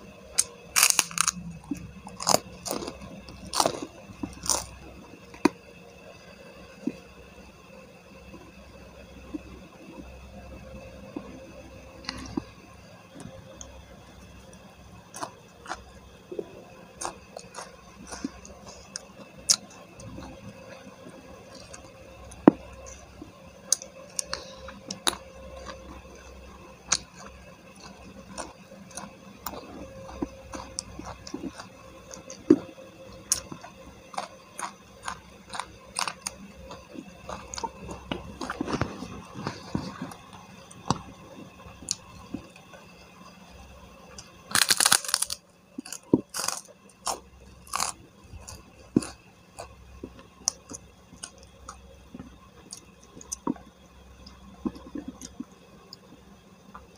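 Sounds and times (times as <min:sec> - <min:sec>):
person chewing food: 0:00.3 - 0:05.6, 0:11.0 - 0:12.6, 0:14.4 - 0:43.4, 0:44.1 - 0:56.9.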